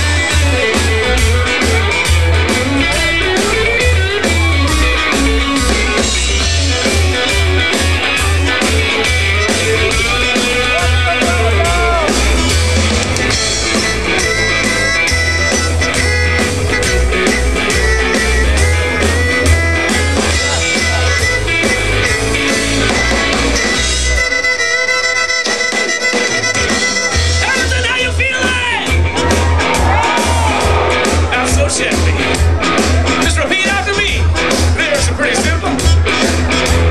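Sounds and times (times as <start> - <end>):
steady drum beat: 0.0 - 24.4, 25.3 - 36.9
band music: 0.0 - 36.9
bass: 0.0 - 36.9
guitar: 0.0 - 36.9.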